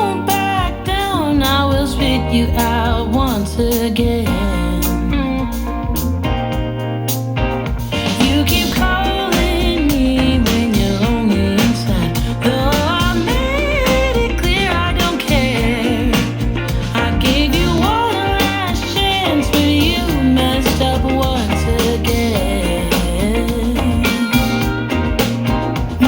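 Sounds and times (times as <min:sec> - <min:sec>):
person singing: 0:00.0 - 0:06.2, 0:08.0 - 0:26.0
guitar: 0:00.0 - 0:26.0
song through portable speaker: 0:00.0 - 0:26.0
steady bass: 0:00.0 - 0:26.0.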